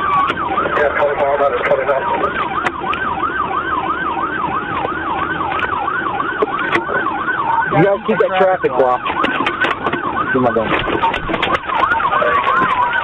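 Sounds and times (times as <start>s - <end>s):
police siren yelping: 0.0s - 13.0s
road noise of moving car: 0.0s - 13.0s.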